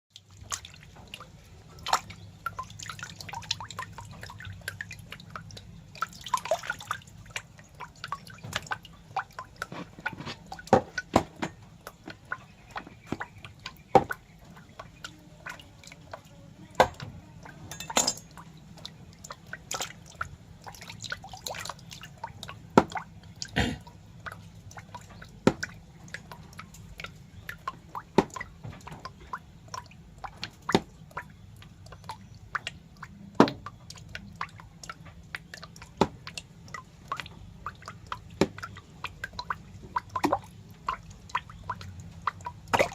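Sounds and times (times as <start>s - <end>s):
wet clicks and drips: 0.1s - 42.9s.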